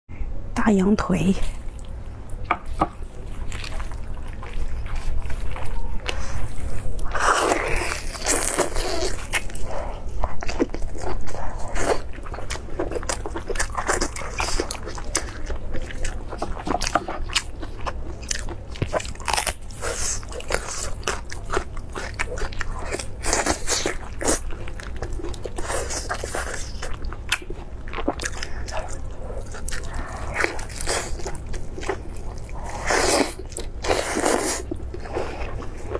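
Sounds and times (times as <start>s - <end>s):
steady low hum: 0.1s - 35.9s
biting and chewing: 1.5s - 35.9s
crunching lettuce leaves: 3.0s - 35.9s.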